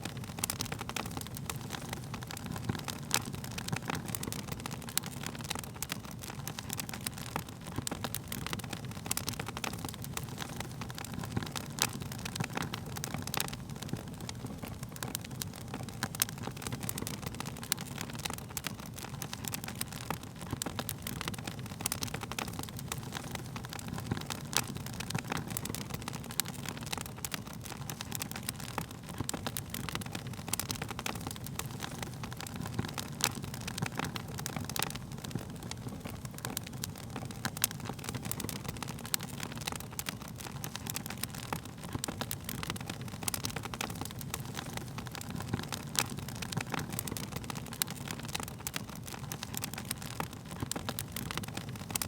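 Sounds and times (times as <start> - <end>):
low rushing of flames: 0.0 - 52.0
wood fire crackling: 0.0 - 52.0.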